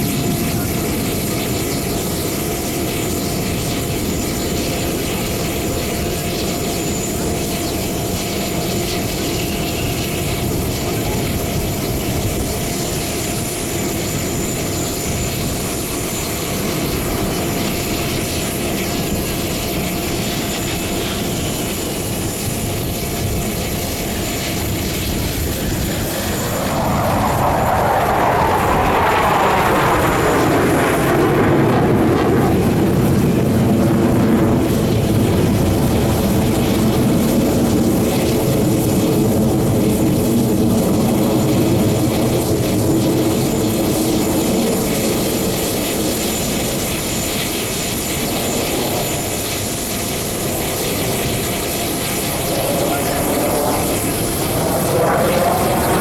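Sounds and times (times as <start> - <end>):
jet engines roaring: 0.0 - 56.0
jet passing by: 0.0 - 56.0.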